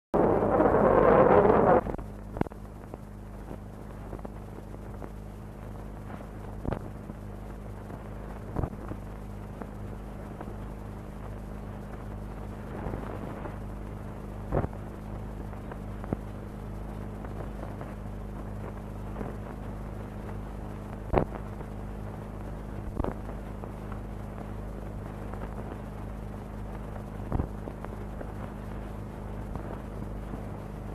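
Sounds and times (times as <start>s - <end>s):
low electrical hum: 0.2s - 30.9s.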